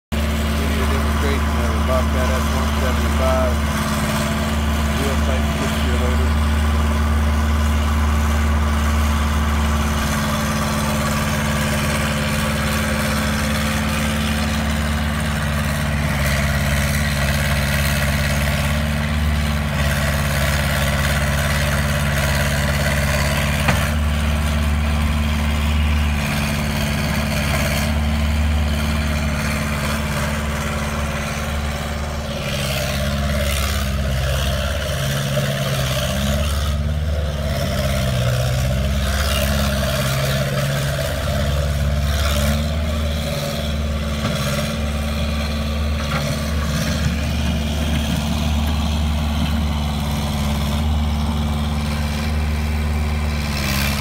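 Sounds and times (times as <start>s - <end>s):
loader diesel engine running: 0.1s - 54.0s.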